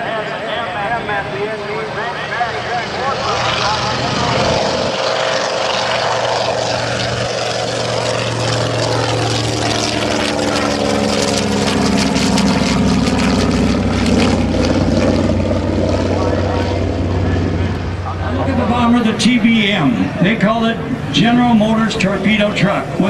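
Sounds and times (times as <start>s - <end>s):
propeller aircraft flying past: 0.0s - 23.0s.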